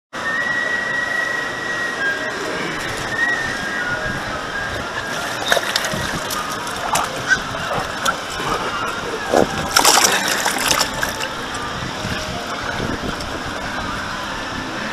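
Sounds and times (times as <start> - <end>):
water rushing down slide: 0.2 - 14.9.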